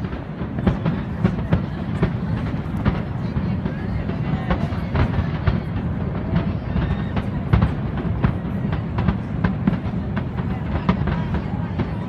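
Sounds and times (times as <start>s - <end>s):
crowd voices: 0.0s - 12.0s
fireworks bangs and crackles: 0.0s - 12.0s.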